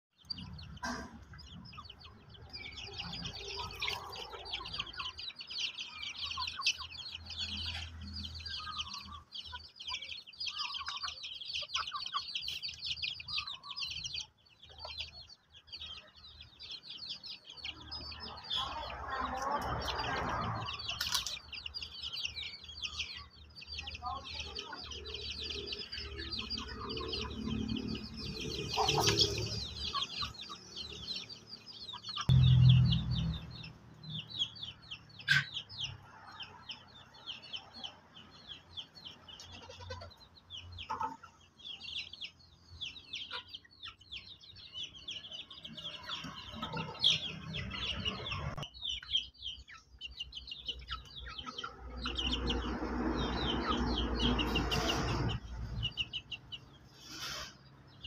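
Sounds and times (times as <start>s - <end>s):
dense high-pitched chirping: 0.1s - 18.9s, 19.6s - 58.0s
chickens clucking: 0.2s - 58.0s.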